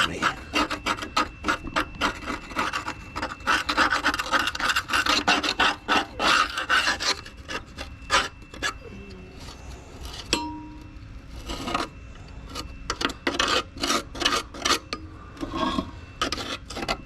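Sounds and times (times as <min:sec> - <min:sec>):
metal scraper scraping steel: 0:00.0 - 0:08.8, 0:10.0 - 0:17.0.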